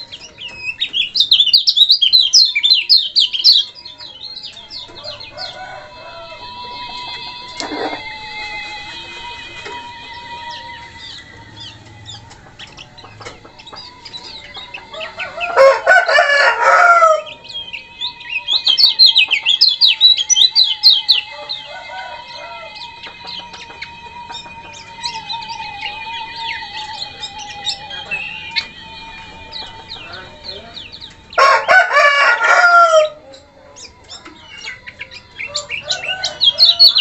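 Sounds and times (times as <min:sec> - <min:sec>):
bird singing high sharp chirps: 0:00.0 - 0:37.0
rooster crowing: 0:01.2 - 0:37.0.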